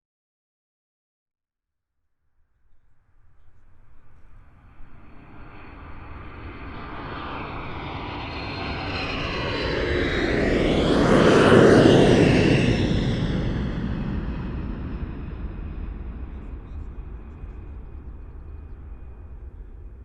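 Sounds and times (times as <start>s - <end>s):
airplane flying overhead: 2.4s - 20.0s.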